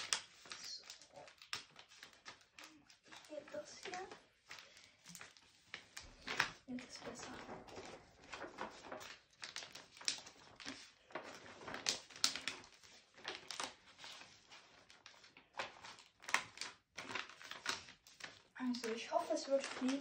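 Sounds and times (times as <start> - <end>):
paper rustling and crinkling: 0.0 - 20.0.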